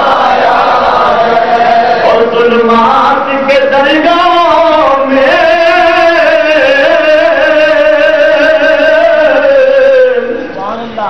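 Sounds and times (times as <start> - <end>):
man chanting through microphone: 0.7 - 11.0.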